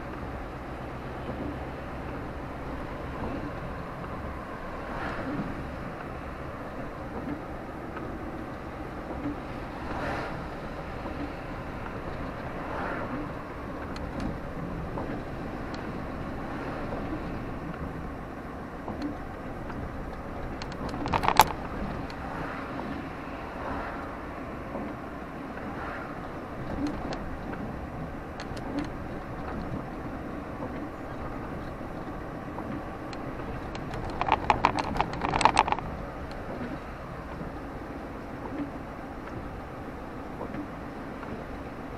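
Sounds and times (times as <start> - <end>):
low traffic rumble: 0.0 - 41.9.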